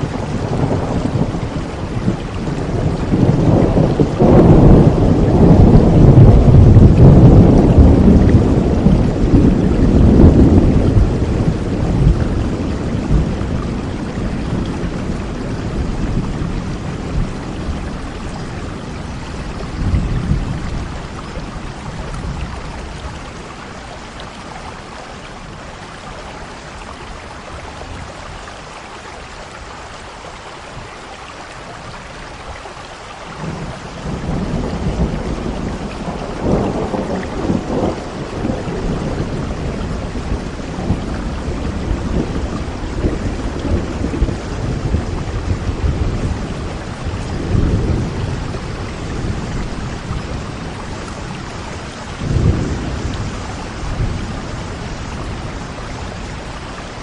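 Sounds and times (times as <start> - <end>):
rolling thunder: 0.0 - 23.6, 33.3 - 57.0
steady rainfall: 0.0 - 57.0.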